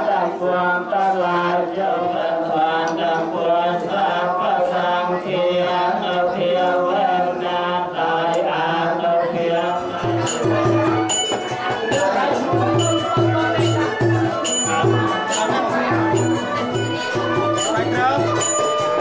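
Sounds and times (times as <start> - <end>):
chanted singing: 0.0 - 19.0
music: 0.0 - 19.0.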